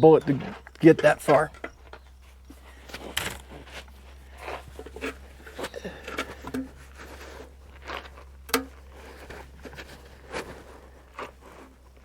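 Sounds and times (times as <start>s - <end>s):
handling knocks and rustles: 0.0s - 12.0s.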